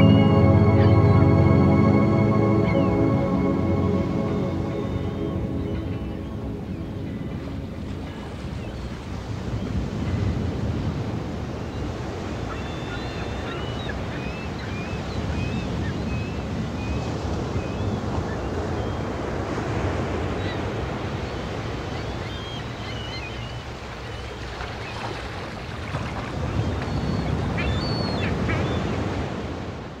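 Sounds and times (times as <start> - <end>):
waves: 0.0 - 30.0
wind: 0.0 - 30.0.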